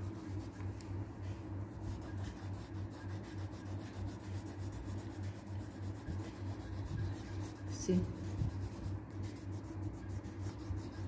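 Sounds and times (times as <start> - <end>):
crayon scrubbing on paper: 0.0 - 0.6, 1.7 - 11.0.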